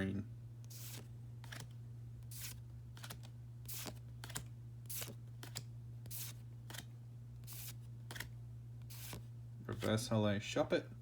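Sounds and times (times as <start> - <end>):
cards swishing: 0.7 - 10.1.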